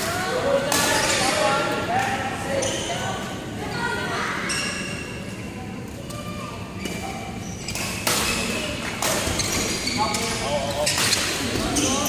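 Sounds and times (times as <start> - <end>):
people chattering: 0.0 - 12.0.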